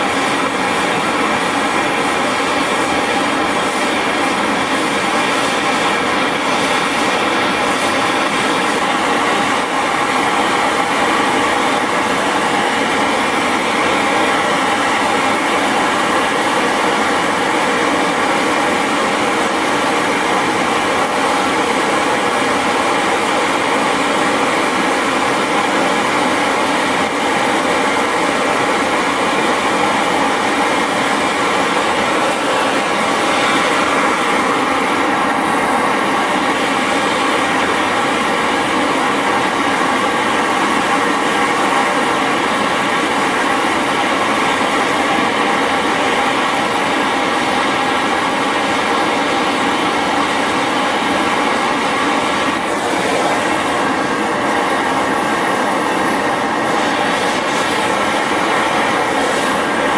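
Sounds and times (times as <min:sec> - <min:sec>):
brazing torch burning steadily: 0:00.0 - 0:59.9.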